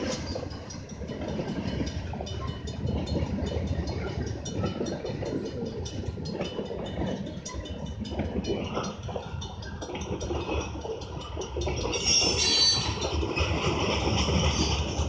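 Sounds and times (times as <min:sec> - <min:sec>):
freight train rumbling past: 0:00.0 - 0:15.0
train wheels clicking over rail joints: 0:00.0 - 0:15.0.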